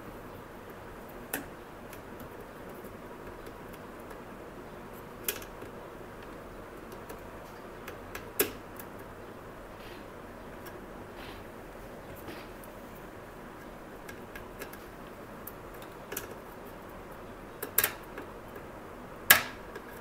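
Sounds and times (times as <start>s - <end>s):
steady low hiss: 0.0s - 20.0s.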